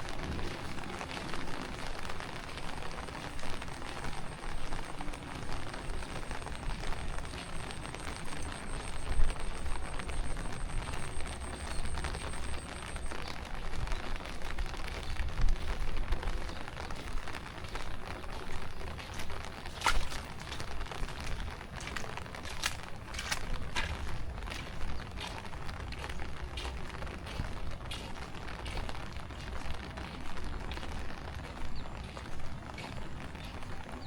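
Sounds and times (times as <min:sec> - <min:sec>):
close raindrop hits: 0:00.0 - 0:34.0
heavy rain falling: 0:00.0 - 0:34.0.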